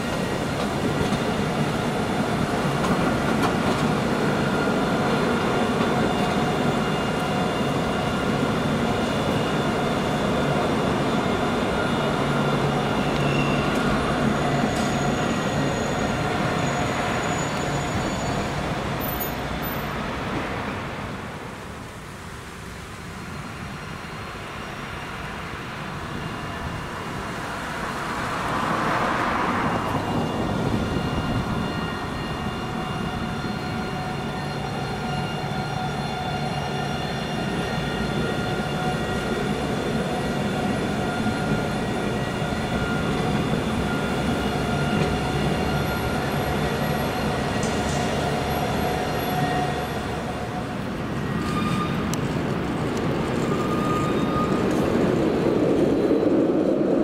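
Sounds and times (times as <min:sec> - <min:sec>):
tram high whine: 0:00.0 - 0:57.0
tram wheels rumbling on rail: 0:00.0 - 0:57.0.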